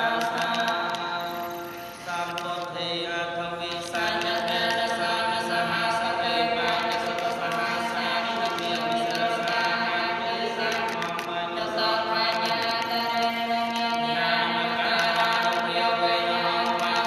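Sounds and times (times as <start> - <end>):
monk chanting: 2.0 - 17.0.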